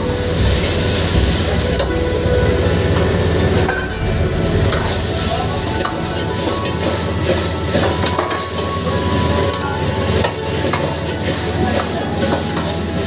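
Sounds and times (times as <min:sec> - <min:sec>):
chicken sizzling in a wok: 0:00.0 - 0:13.0
low gas flame roar: 0:00.0 - 0:13.0.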